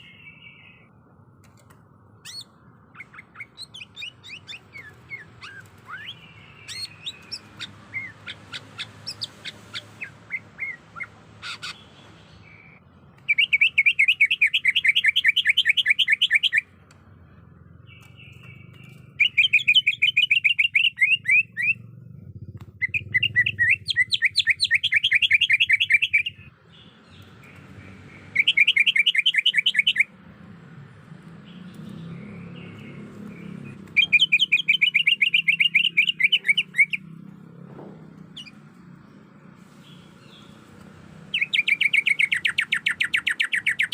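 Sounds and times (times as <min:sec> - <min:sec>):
bird chirping and rattling song: 0:00.0 - 0:43.9.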